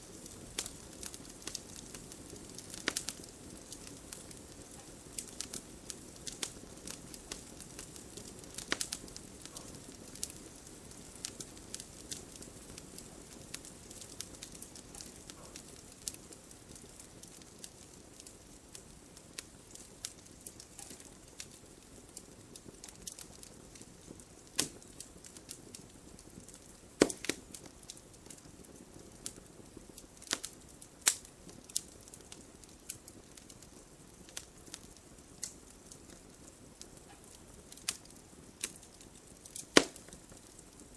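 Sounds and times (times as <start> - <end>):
campfire crackling: 0.0 - 40.9
fire popping sharply: 0.0 - 40.9.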